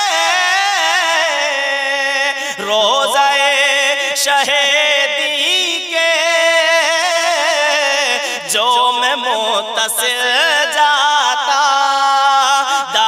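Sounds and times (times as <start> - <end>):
man singing devotional poem: 0.0 - 13.0.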